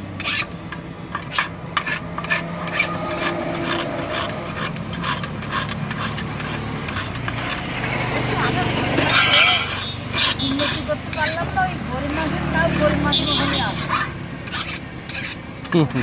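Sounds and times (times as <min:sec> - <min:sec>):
file rasping on steel blade: 0:00.2 - 0:15.5.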